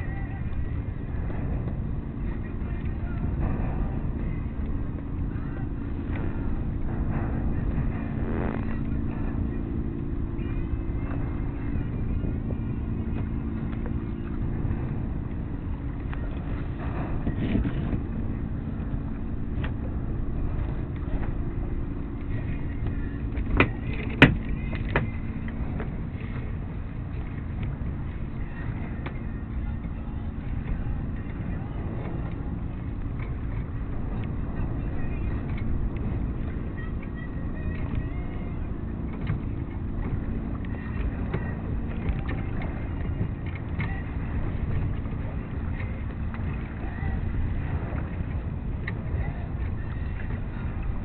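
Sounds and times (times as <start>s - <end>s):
sailboat rumble and hum: 0.0s - 51.0s.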